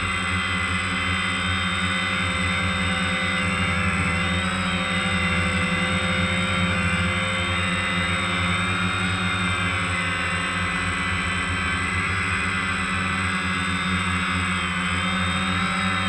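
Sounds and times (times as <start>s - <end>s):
drone motors and propellers: 0.0s - 16.0s.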